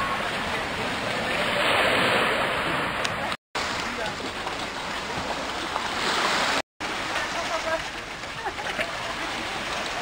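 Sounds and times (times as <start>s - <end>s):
waves lapping on pebble shore: 0.0s - 10.0s.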